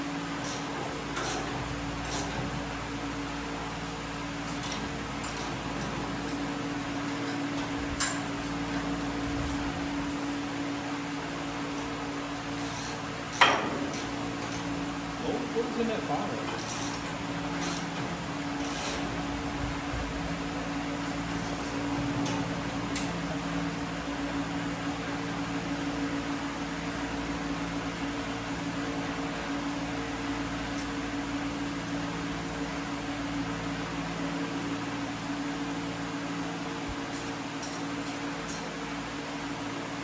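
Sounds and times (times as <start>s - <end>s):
mechanical hum: 0.0s - 40.0s.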